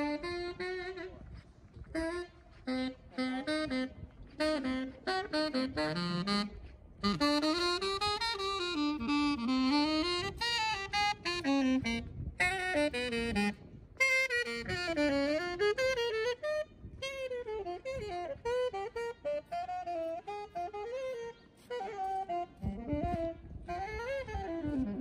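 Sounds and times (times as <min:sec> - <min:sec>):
solo saxophone melody: 0:00.0 - 0:25.0.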